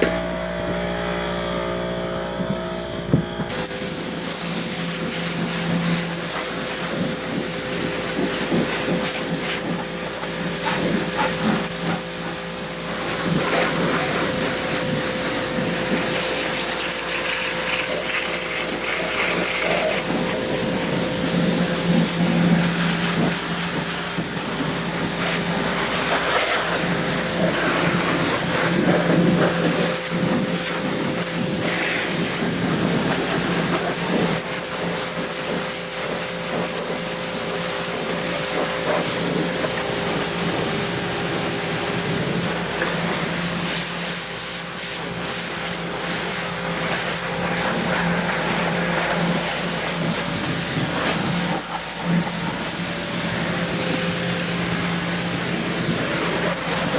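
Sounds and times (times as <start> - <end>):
pressure washer motor humming: 0.0 - 56.9
water jet hissing: 3.5 - 56.9.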